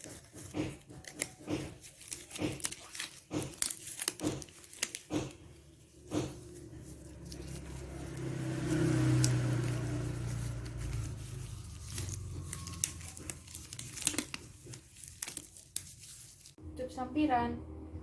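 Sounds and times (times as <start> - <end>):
rustling of objects: 0.0 - 16.6.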